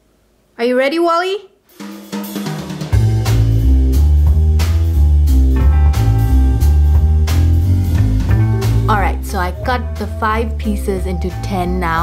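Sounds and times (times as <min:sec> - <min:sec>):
guitar tune with bass and drums: 0:02.2 - 0:12.0.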